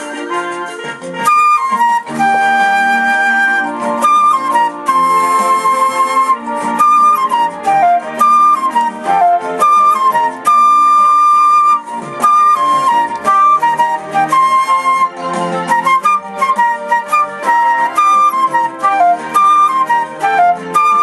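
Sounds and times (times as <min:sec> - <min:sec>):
flute melody: 0:00.0 - 0:21.0
lower accompaniment: 0:00.0 - 0:21.0.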